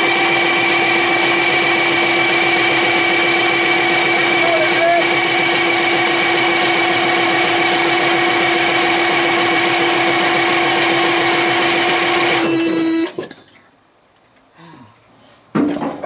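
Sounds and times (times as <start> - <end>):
starter cranking diesel engine: 0.0 - 13.2.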